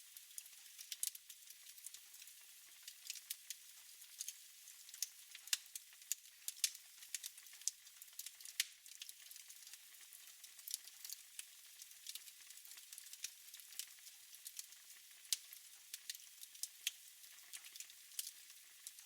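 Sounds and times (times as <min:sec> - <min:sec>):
wood fire crackling: 0:00.2 - 0:02.3, 0:02.9 - 0:11.2, 0:11.8 - 0:14.6, 0:15.3 - 0:19.0.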